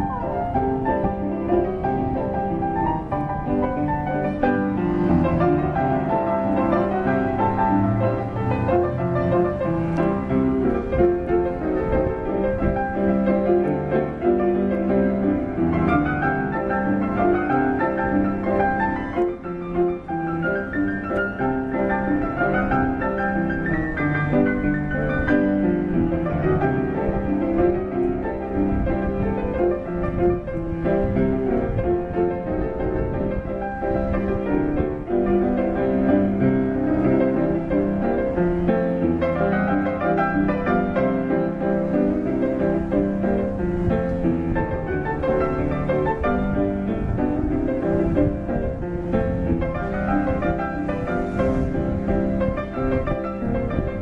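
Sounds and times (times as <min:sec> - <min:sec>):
piano music with rising runs: 0:00.0 - 0:54.0.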